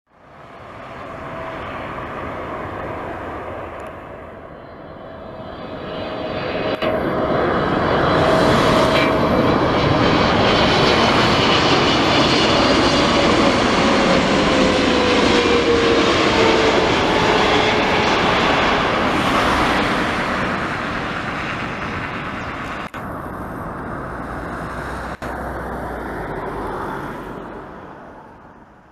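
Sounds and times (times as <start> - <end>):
jet engines rumbling: 0.2 - 28.9.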